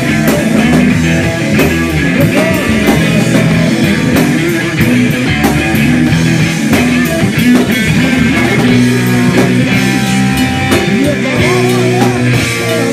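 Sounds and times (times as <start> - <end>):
drum and cymbal hits: 0.0 - 12.9
electric guitar notes: 0.0 - 12.9.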